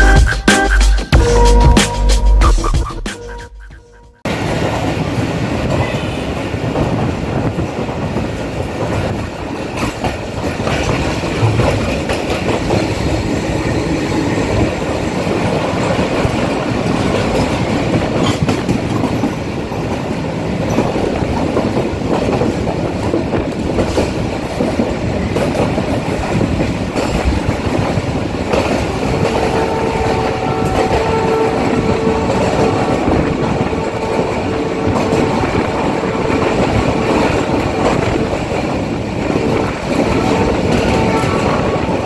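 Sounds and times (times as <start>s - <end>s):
train wheels rumbling on rails: 4.2s - 42.0s
wheels clicking over rail joints: 4.4s - 13.7s, 14.5s - 42.0s.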